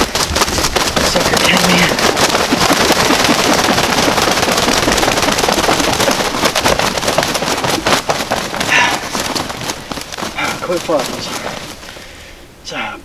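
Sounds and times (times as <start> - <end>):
thrashing in dry leaves: 0.0 - 12.5
turkey wings beating: 0.0 - 12.9.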